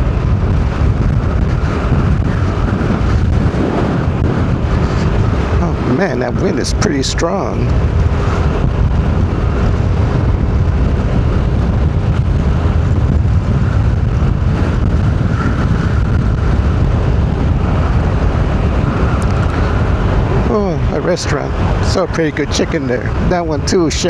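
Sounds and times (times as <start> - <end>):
car driving along a road: 0.0 - 24.0
wind buffeting the microphone: 0.0 - 24.0.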